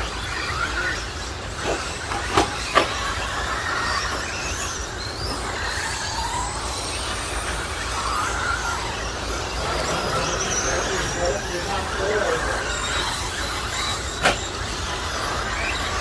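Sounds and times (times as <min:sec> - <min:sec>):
electric toy trucks whining: 0:00.0 - 0:16.0.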